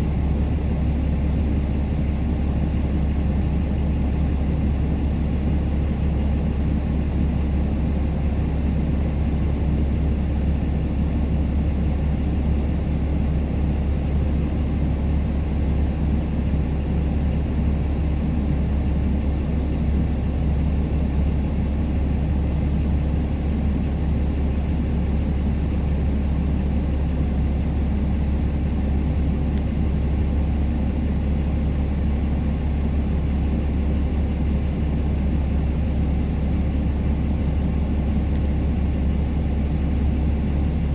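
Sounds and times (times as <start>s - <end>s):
truck engine and road noise: 0.0s - 40.9s.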